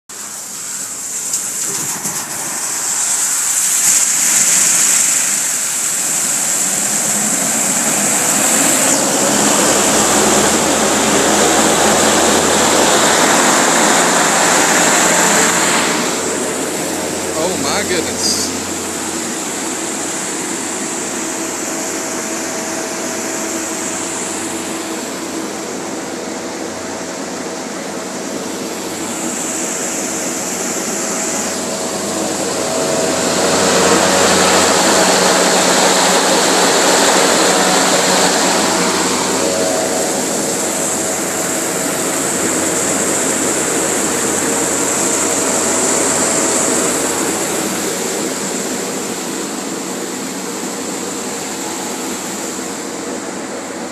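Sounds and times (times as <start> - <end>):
foam generator roar: 0.1 - 53.9.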